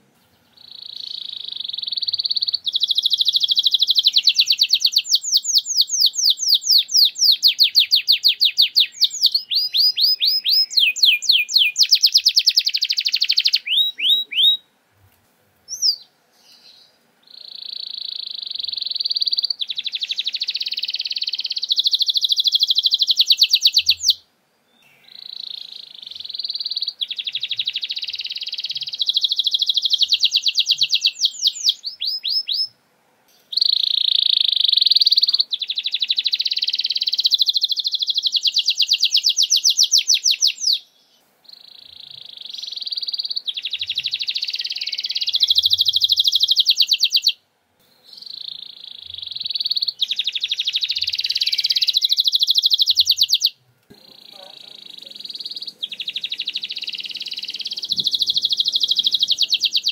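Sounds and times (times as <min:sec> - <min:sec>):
canary singing with rattling trills: 0:00.5 - 0:14.6, 0:15.7 - 0:24.2, 0:24.8 - 0:32.7, 0:33.5 - 0:47.4, 0:48.1 - 0:59.9.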